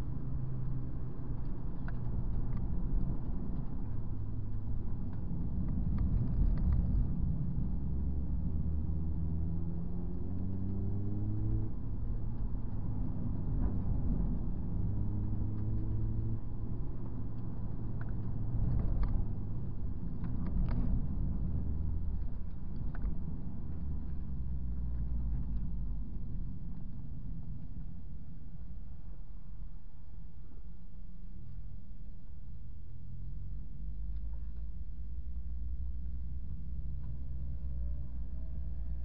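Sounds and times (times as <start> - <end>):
car engine rumbling and revving: 0.0 - 29.2, 33.0 - 39.0.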